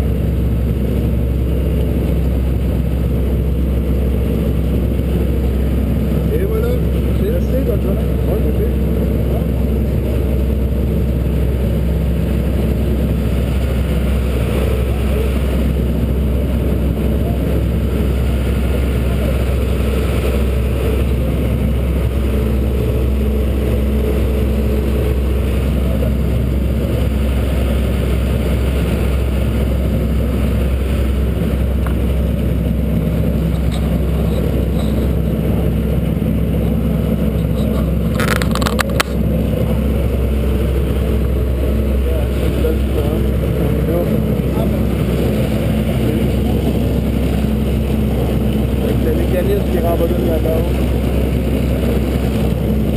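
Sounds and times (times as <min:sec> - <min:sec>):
low engine drone: 0:00.0 - 0:52.9.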